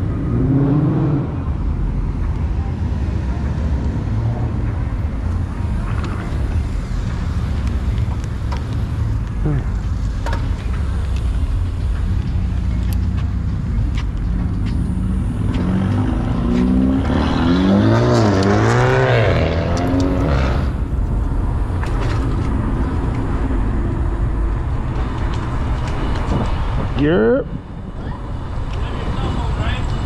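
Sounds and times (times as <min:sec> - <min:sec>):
vehicle low rumble: 0:00.0 - 0:30.0
wind: 0:00.0 - 0:30.0.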